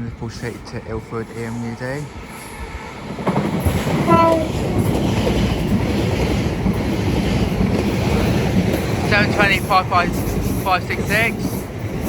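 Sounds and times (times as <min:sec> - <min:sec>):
train passing through platform: 0:00.0 - 0:12.0.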